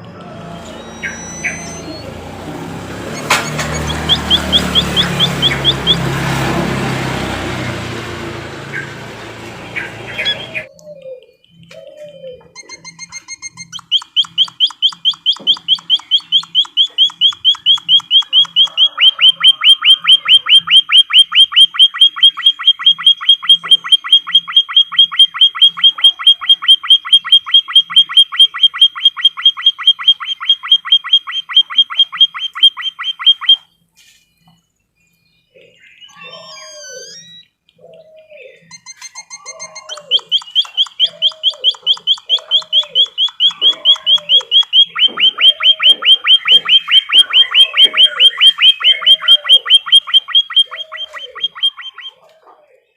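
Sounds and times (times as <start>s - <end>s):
bird chirping: 0.0s - 7.2s, 8.0s - 52.9s.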